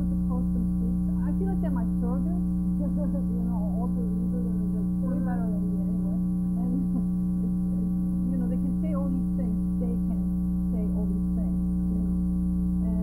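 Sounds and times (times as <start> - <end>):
electrical hum: 0.0 - 13.0
faint conversation: 0.0 - 13.0.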